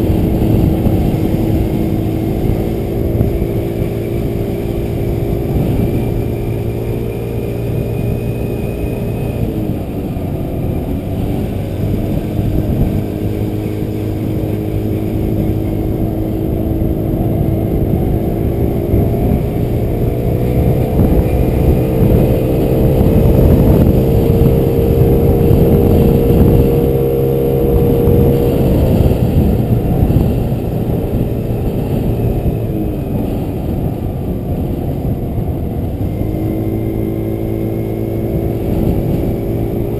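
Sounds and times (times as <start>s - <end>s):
motor scooter engine droning: 0.0s - 39.9s
wind rumble on microphone: 0.0s - 39.9s.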